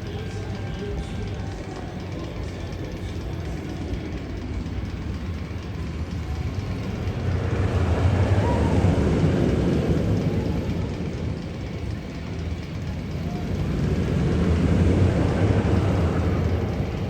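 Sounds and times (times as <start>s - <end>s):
low rumble: 2.9s - 17.0s.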